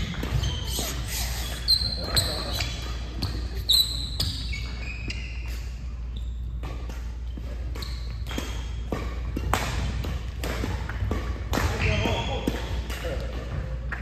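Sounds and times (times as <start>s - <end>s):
badminton rackets striking shuttlecocks: 0.0s - 1.0s, 2.0s - 14.0s
sneaker squeaks on court floor: 0.0s - 10.0s, 11.0s - 12.9s.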